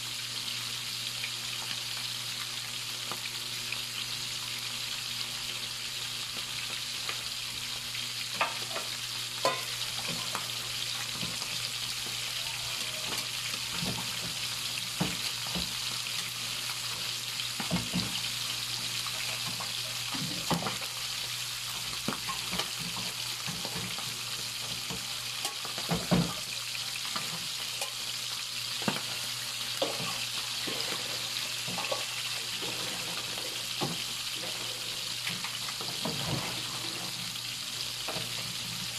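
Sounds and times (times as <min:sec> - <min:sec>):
fish frying in hot oil: 0:00.0 - 0:38.9.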